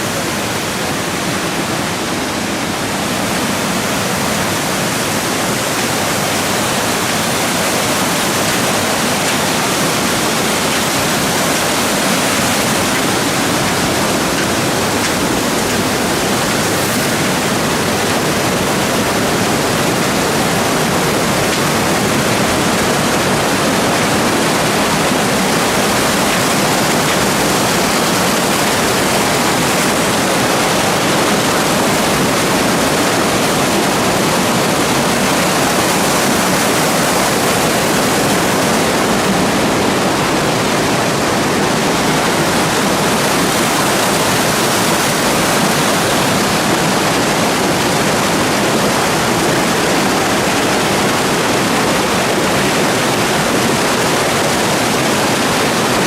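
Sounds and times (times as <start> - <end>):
white water rushing: 0.0 - 56.0.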